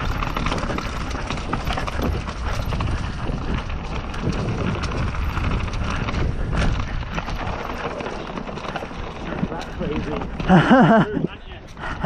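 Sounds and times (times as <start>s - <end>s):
bike clicks and rattles: 0.0s - 12.0s
bike tyre noise: 0.0s - 12.0s
wind rumble on microphone: 0.0s - 12.0s.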